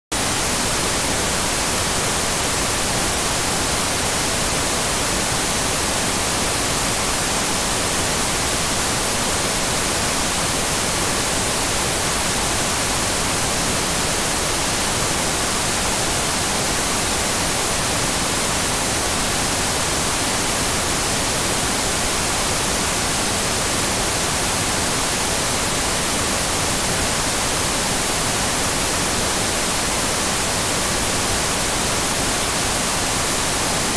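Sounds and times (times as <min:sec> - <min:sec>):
television static hiss: 0:00.1 - 0:33.9.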